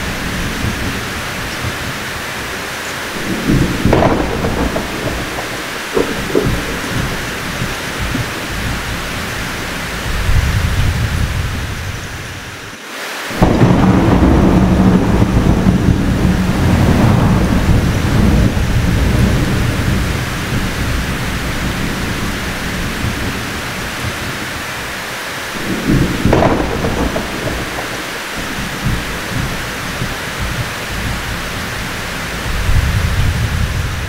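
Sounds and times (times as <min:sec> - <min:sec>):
thunder crack: 0:00.0 - 0:12.6, 0:13.3 - 0:34.0
heavy rain falling: 0:00.0 - 0:34.0
thunder rumbling: 0:00.0 - 0:34.0.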